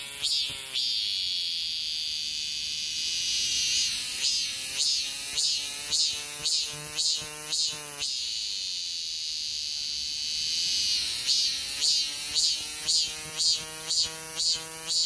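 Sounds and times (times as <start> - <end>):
cicada singing: 0.0 - 15.0.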